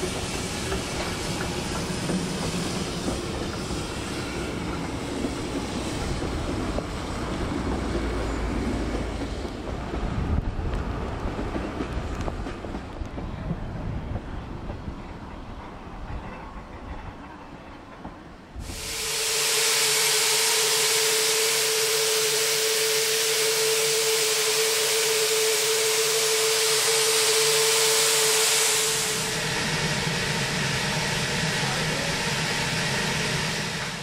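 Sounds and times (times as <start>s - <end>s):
steam locomotive hissing: 0.0s - 13.3s, 18.5s - 34.0s.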